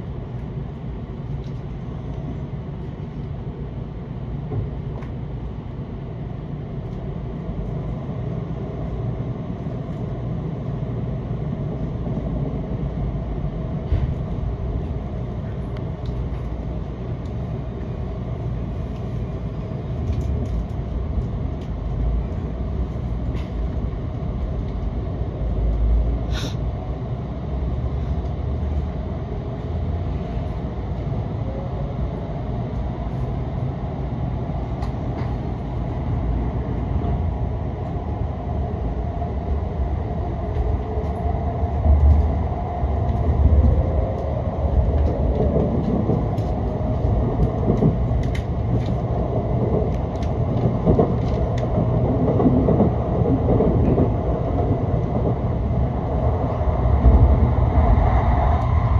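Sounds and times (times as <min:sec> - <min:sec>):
train cabin rumble: 0:00.0 - 0:58.9.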